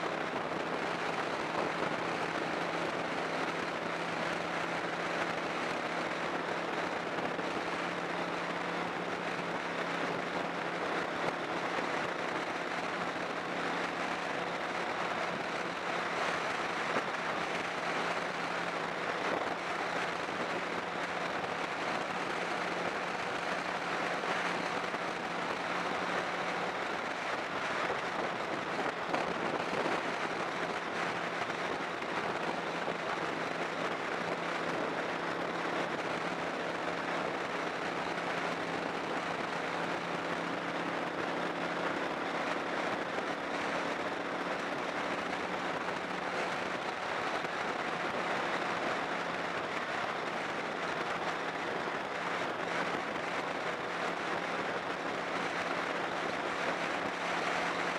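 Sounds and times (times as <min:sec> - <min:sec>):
engine drone: 0:00.0 - 0:57.9
road noise: 0:00.0 - 0:57.9
wind rushing on microphone: 0:00.0 - 0:57.9.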